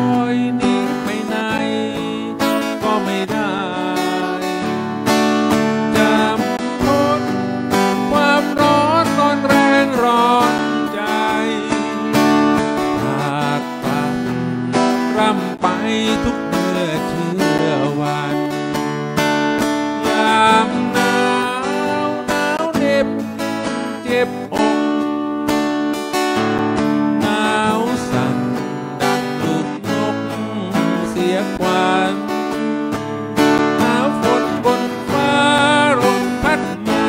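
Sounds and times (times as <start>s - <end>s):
acoustic guitar strumming: 0.0s - 37.0s
man singing: 0.0s - 37.0s.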